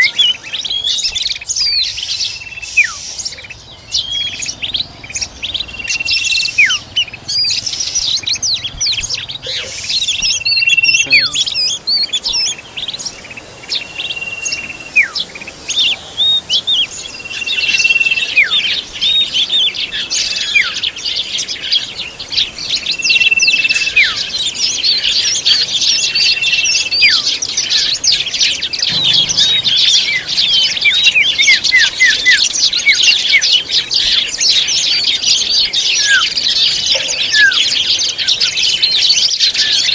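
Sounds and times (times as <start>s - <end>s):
bird whistling call: 0.0s - 12.6s, 13.7s - 20.9s, 22.9s - 39.9s.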